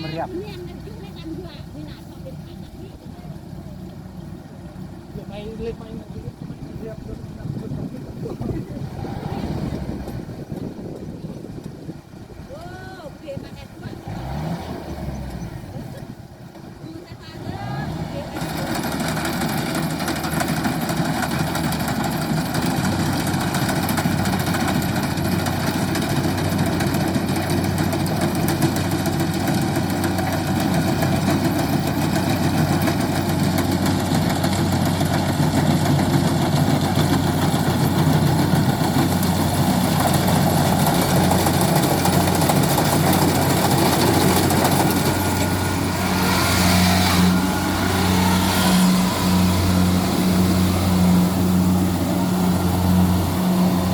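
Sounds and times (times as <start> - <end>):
combine harvester diesel engine: 0.0 - 53.9.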